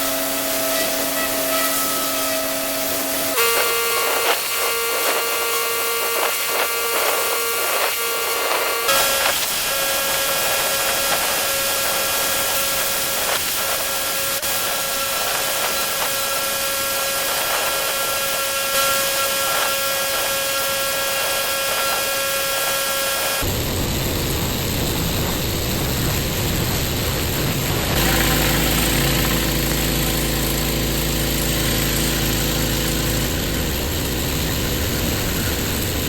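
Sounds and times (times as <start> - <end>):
high-pressure water spray hiss: 0.0 - 36.0
pressure washer engine whine: 0.0 - 36.0.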